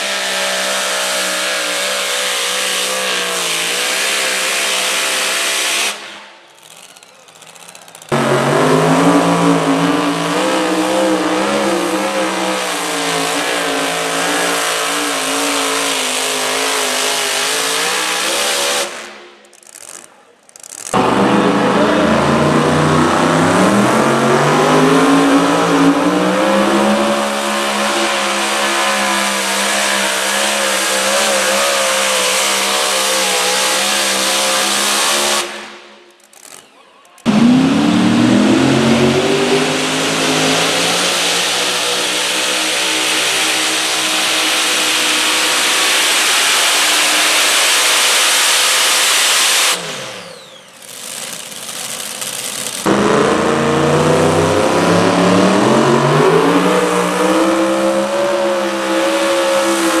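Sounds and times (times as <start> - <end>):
supercharged engines roaring: 0.0 - 60.0.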